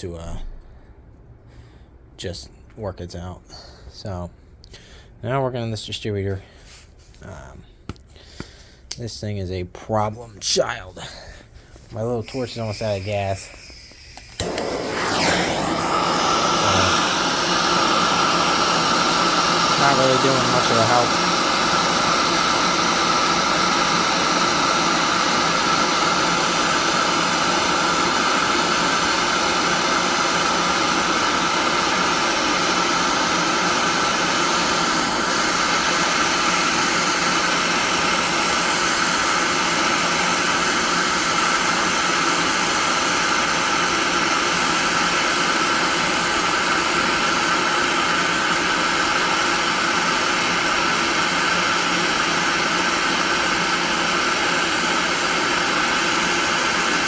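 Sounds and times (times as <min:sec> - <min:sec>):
gas torch hissing: 0:11.0 - 0:57.0.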